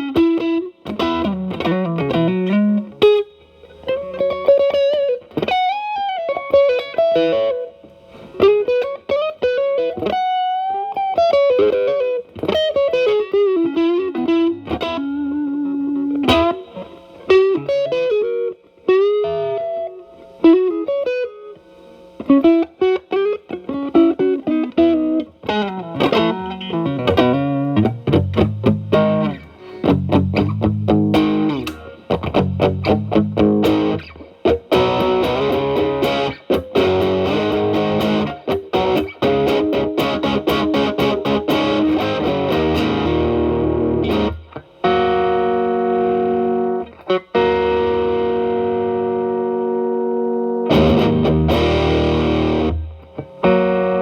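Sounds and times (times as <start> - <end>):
lightly distorted electric guitar: 0.0 - 54.0.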